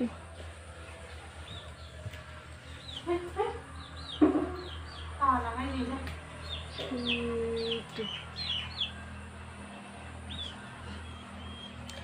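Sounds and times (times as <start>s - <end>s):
low held hum: 0.0s - 12.0s
small birds chirping: 1.4s - 12.0s.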